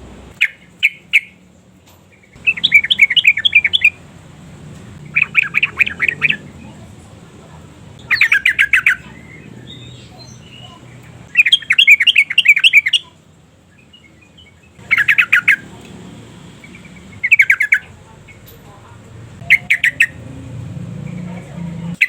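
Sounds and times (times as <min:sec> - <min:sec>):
bulbul singing: 0:00.3 - 0:22.0.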